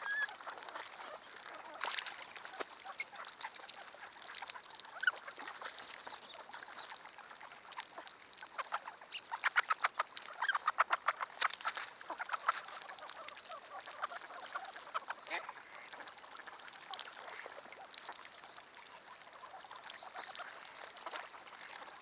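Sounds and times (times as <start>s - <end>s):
flock of ducks quacking: 0.0s - 22.0s.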